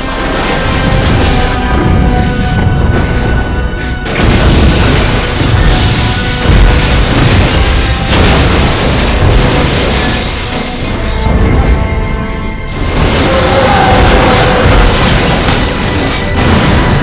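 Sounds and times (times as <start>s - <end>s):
things shattering: 0.0s - 3.4s, 4.0s - 11.9s, 12.5s - 17.0s
dramatic orchestral film music: 0.0s - 17.0s
booming explosions: 0.3s - 17.0s.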